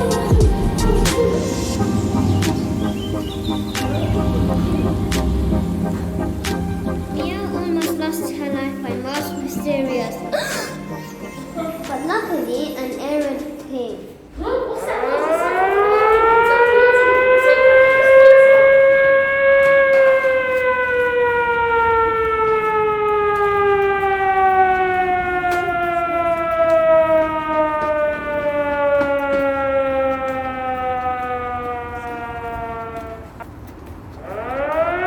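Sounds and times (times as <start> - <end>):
air-raid siren wailing: 0.0 - 13.2, 14.4 - 35.0.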